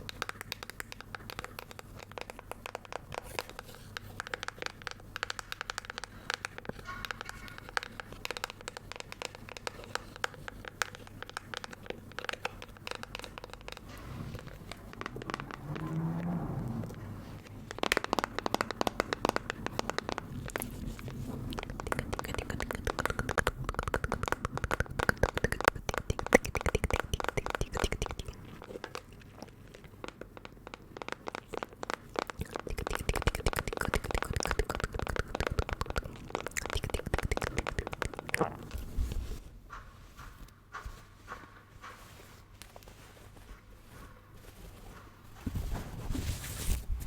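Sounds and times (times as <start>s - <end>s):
crackling crinkling clicks: 0.0s - 38.5s.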